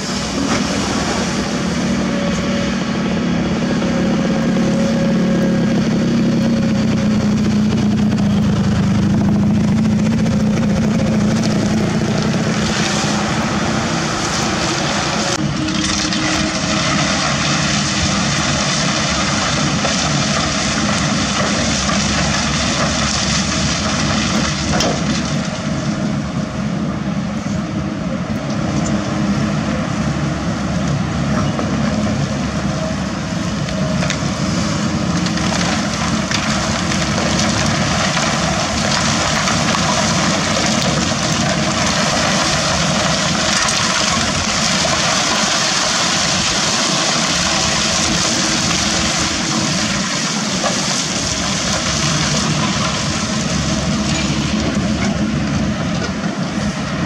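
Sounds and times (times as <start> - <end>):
excavator diesel engine drone: 0.0 - 57.0.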